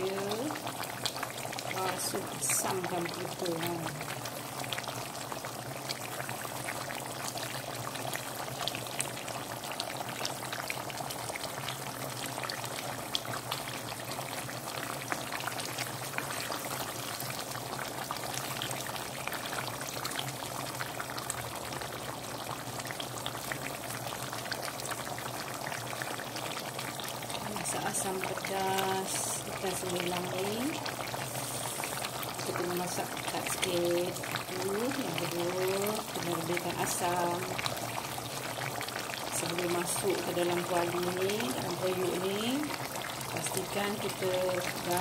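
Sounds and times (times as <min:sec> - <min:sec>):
stew bubbling in a pot: 0:00.0 - 0:45.0.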